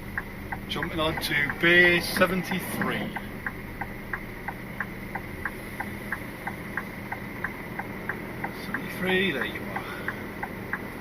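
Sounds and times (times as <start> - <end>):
diesel engine idling: 0.0 - 11.0
indicator relay ticking: 0.0 - 11.0.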